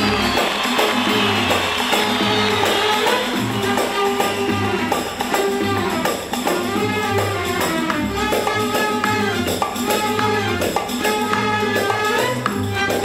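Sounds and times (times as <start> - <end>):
band playing melody: 0.0 - 13.0
steady percussion beat: 0.0 - 13.0.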